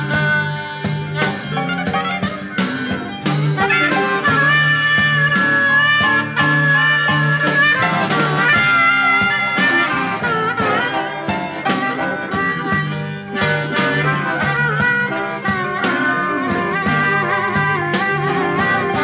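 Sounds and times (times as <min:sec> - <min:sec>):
blues band playing: 0:00.0 - 0:19.0
harmonica lead line: 0:00.0 - 0:19.0.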